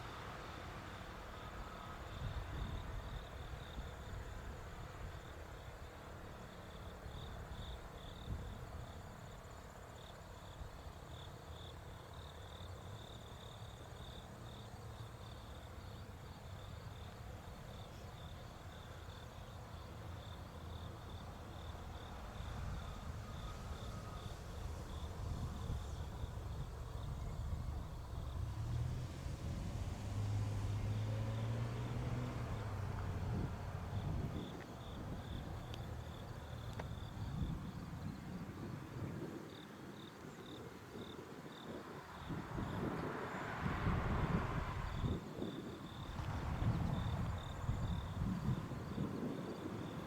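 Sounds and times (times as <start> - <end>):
insects chirping: 0.0 - 50.0.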